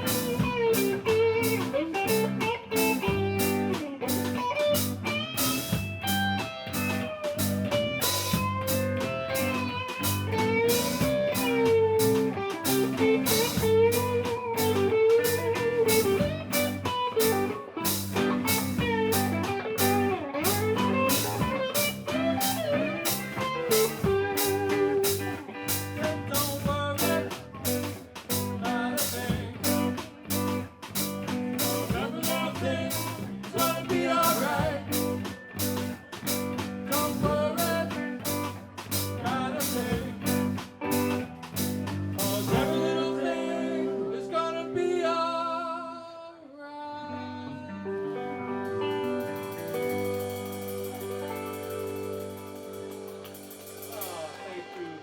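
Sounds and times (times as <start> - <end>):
bluesy guitar-led music: 0.0 - 46.1, 46.9 - 55.0.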